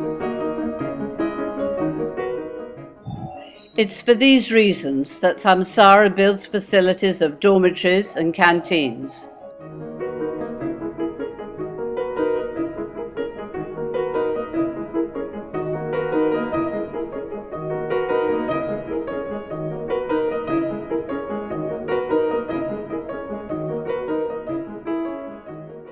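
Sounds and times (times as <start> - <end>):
calm piano music: 0.0 - 4.2, 8.4 - 25.9.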